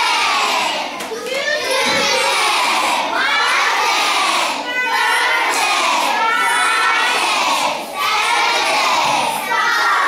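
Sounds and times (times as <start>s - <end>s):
children calling out together: 0.0s - 10.0s.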